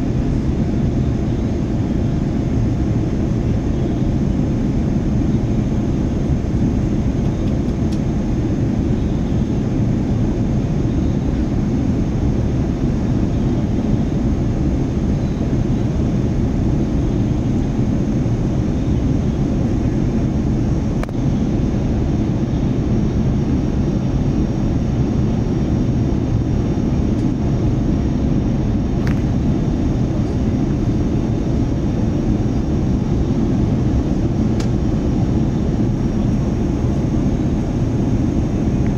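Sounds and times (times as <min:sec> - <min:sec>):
airliner cabin roar: 0:00.0 - 0:38.9.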